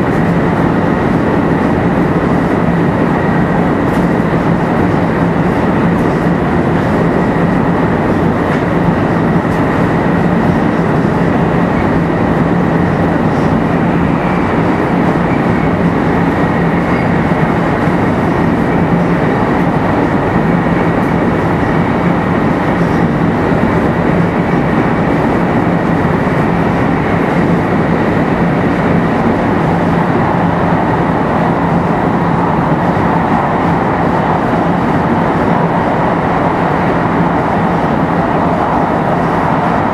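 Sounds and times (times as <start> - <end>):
steady low hum: 0.0 - 39.9
train wheels rumbling on rail: 0.0 - 39.9.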